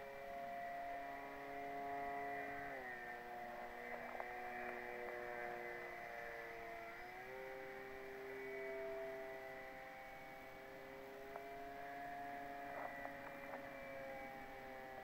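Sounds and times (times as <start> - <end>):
model plane motor whine: 0.0 - 15.0.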